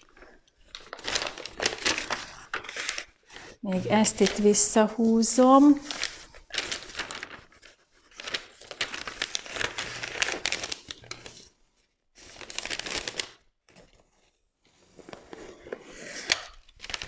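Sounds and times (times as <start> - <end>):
adhesive film crinkling and crackling: 0.0 - 4.8, 5.6 - 11.6, 12.2 - 14.2, 15.0 - 17.0.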